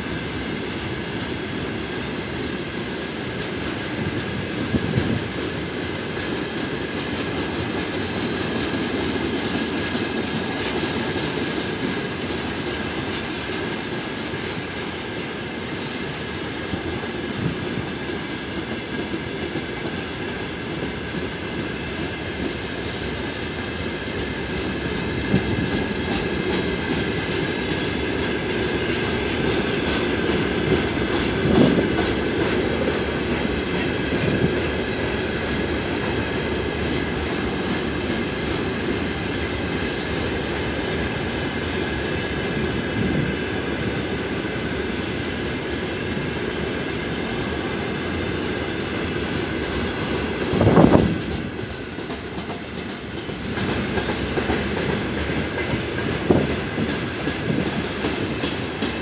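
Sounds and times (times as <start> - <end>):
freight wagons rolling on rails: 0.0 - 59.0
wheels clacking over rail joints: 0.0 - 59.0.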